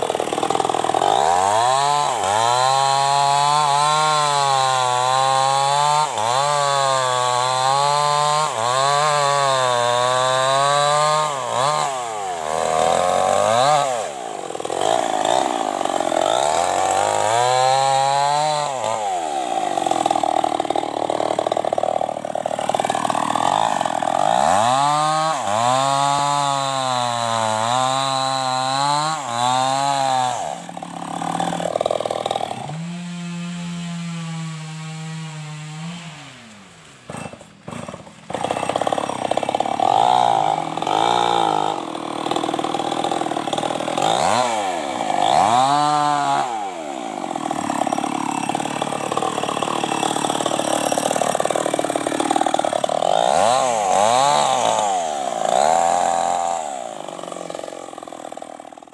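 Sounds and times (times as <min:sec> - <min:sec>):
chainsaw cutting log: 0:00.0 - 0:58.9.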